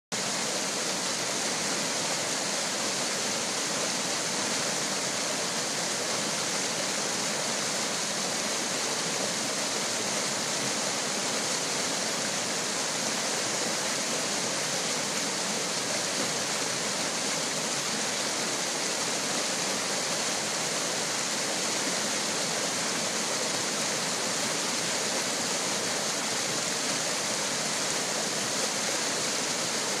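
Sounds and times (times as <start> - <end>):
stream rushing over boulders: 0.1 - 30.0.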